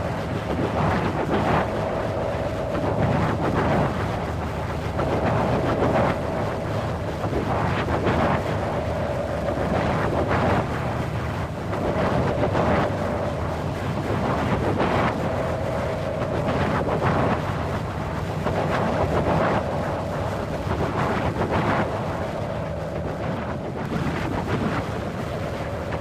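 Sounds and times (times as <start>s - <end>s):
wind gusting: 0.0s - 26.0s.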